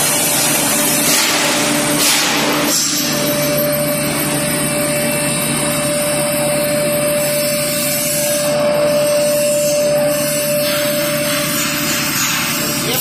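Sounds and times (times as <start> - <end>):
grinding mill whining: 0.0 - 13.0.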